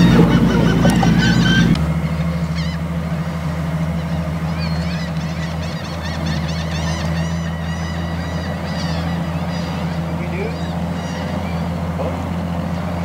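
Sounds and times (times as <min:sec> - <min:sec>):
birds calling: 0:00.0 - 0:13.0
boat engine humming: 0:00.0 - 0:13.0.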